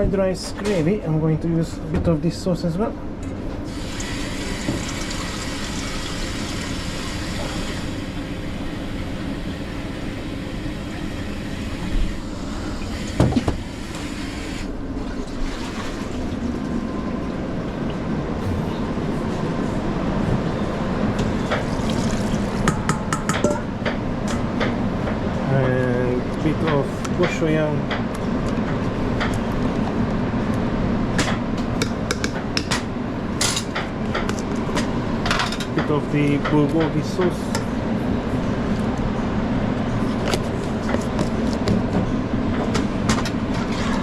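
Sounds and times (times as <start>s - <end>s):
kitchen background rumble: 0.0s - 44.0s.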